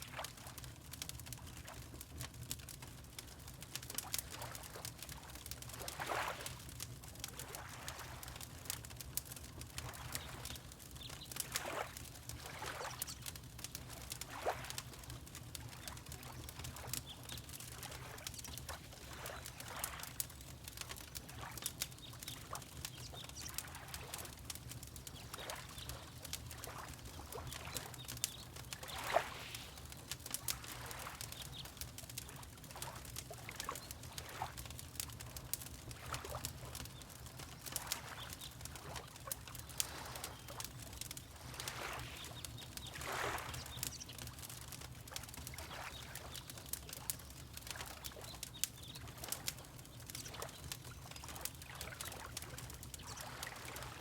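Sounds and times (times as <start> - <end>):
fireplace crackling and popping: 0.0 - 54.0
water lapping: 4.0 - 6.6, 7.4 - 8.8, 9.6 - 48.4, 49.0 - 54.0.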